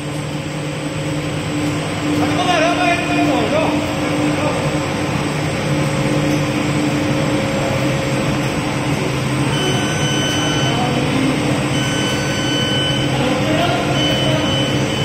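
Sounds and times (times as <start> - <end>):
machinery humming loudly: 0.0 - 15.0
thin high whine: 2.1 - 15.0.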